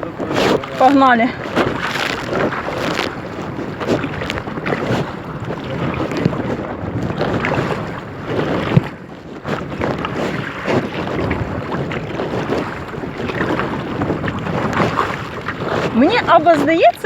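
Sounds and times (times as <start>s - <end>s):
water sloshing around kayak: 0.0s - 17.0s
wind buffeting microphone: 0.0s - 17.0s.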